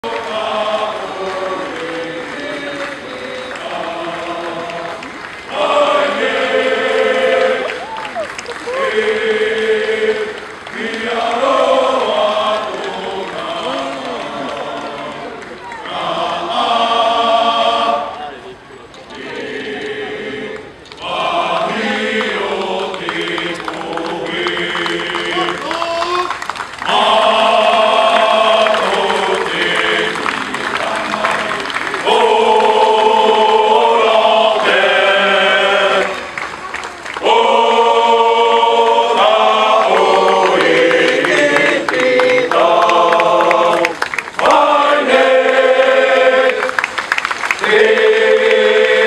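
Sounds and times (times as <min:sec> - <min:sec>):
men singing in unison: 0:00.0 - 0:07.8, 0:08.8 - 0:18.2, 0:19.3 - 0:25.7, 0:26.8 - 0:36.2, 0:37.2 - 0:46.7, 0:47.6 - 0:49.0.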